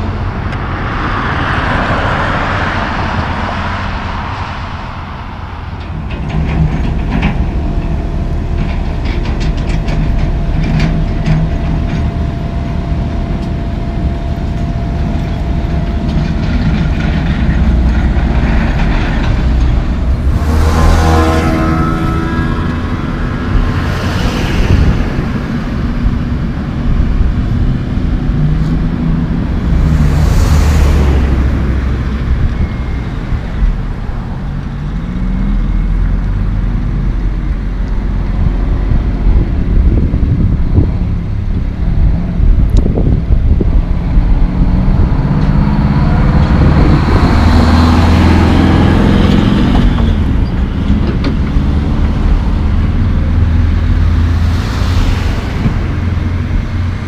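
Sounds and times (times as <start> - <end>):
diesel truck engine: 0.0 - 57.0
passing vehicles tyre noise: 0.0 - 57.0.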